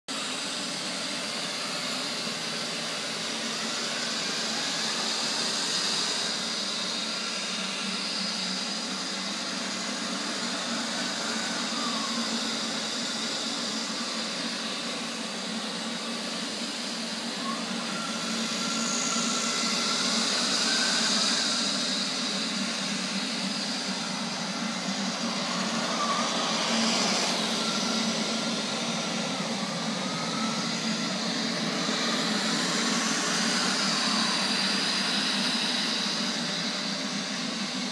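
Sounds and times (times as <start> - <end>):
robot vacuum cleaner whirring: 0.1 - 37.9.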